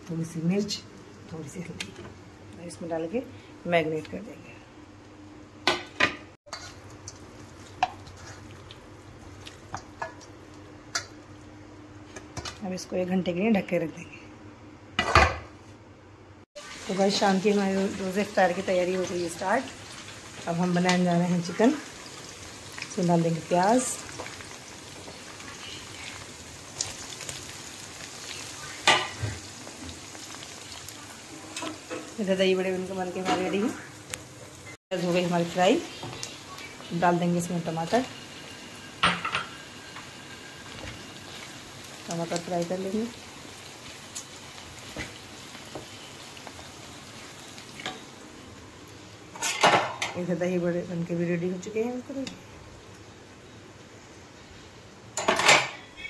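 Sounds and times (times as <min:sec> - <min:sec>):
onions sizzling in oil: 0:05.4 - 0:13.4, 0:16.5 - 0:55.6.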